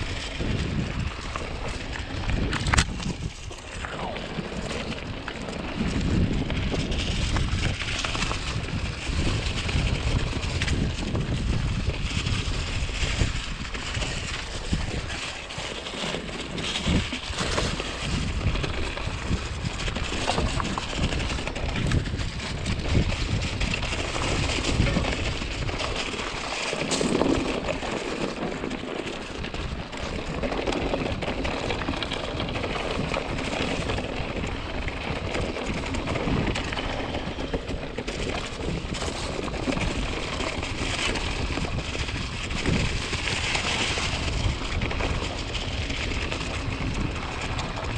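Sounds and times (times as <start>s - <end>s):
bike rattling over bumps: 0.0s - 47.9s
bike tyre noise: 0.0s - 47.9s
wind rushing over microphone: 0.0s - 47.9s.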